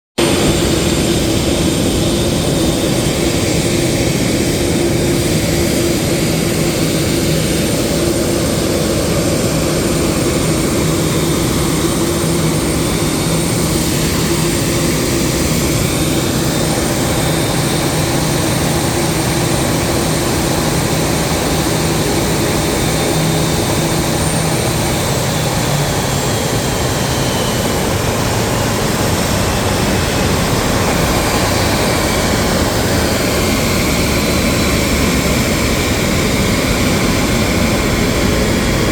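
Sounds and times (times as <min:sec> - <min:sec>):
jet engines idling: 0:00.2 - 0:38.9.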